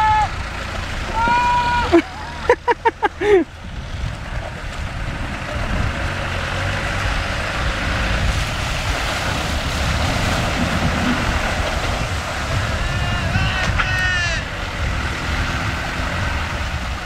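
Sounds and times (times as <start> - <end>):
vehicle engines rumbling: 0.0 - 17.0
water churning and sloshing: 0.3 - 17.0.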